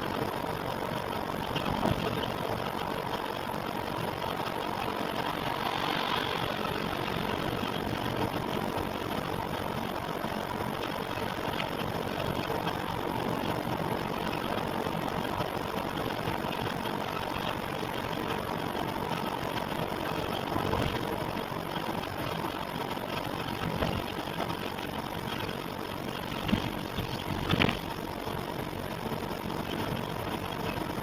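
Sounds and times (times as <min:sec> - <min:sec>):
machine running noise: 0:00.0 - 0:31.0.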